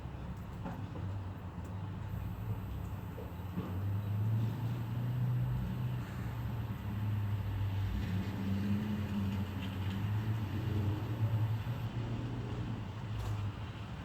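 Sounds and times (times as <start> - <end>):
car engine and road noise: 0.2 - 14.0.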